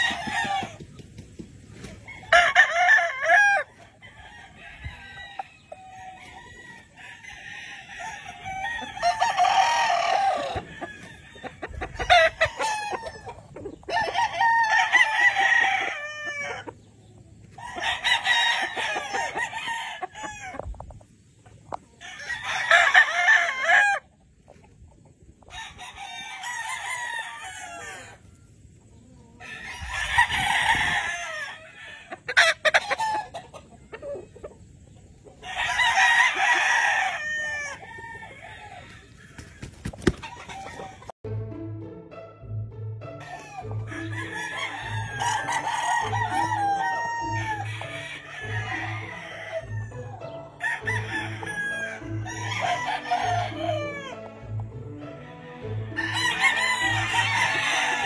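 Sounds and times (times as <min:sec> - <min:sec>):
roosters crowing: 0:00.0 - 0:24.2, 0:25.4 - 0:28.6, 0:29.2 - 0:34.5, 0:35.1 - 0:41.2, 0:43.2 - 0:58.0.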